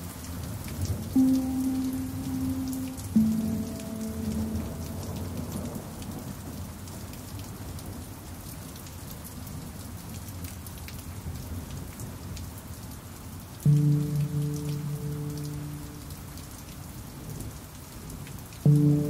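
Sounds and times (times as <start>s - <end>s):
rain drops pattering: 0.0s - 19.0s.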